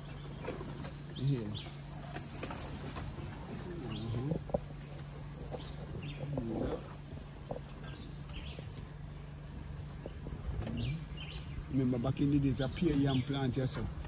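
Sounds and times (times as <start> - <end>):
insects trilling: 0.0 - 14.0
vehicle engine hum: 0.0 - 14.0.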